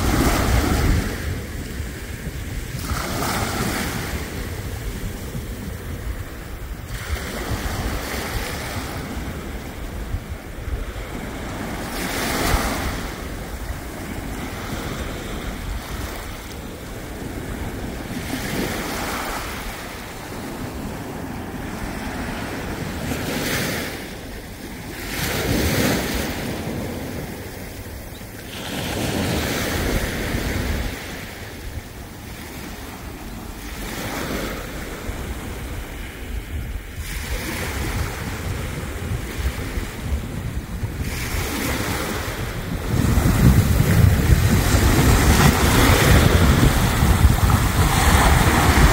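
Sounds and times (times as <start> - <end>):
sea waves lapping on beach: 0.0 - 48.9
wind rumbling on microphone: 0.0 - 48.9.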